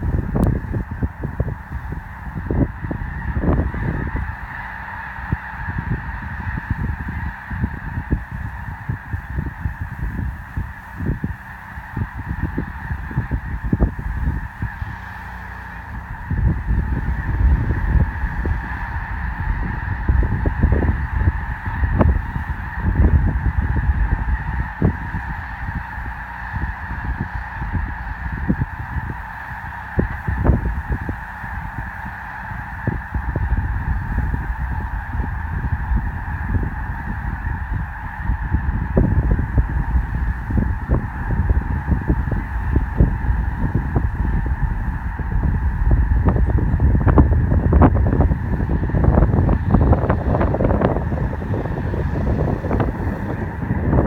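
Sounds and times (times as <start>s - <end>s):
geese honking: 0.0s - 54.0s
wind buffeting microphone: 0.0s - 54.0s.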